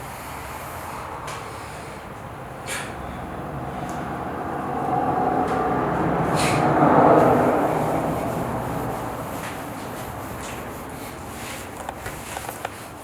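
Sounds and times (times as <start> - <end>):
vehicle passing: 0.0 - 12.5.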